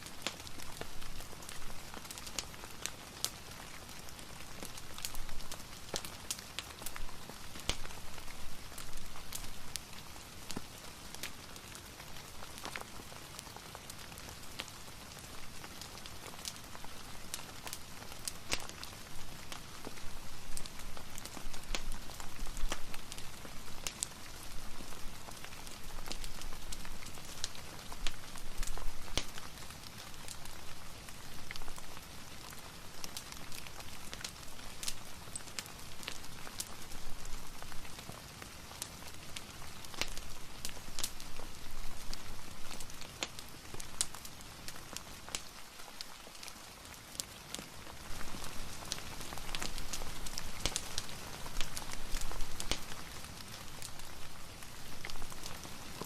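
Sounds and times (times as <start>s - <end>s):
fireplace crackling and popping: 0.0s - 56.0s
steady rain hiss: 0.0s - 56.0s.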